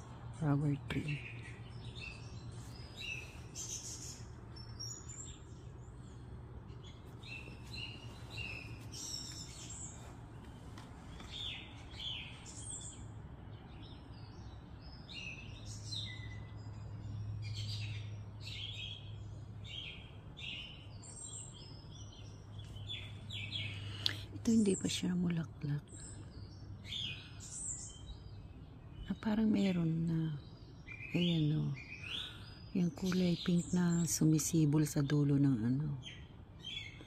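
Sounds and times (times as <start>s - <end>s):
low steady hum: 0.0s - 37.0s
small birds chirping: 0.0s - 37.0s.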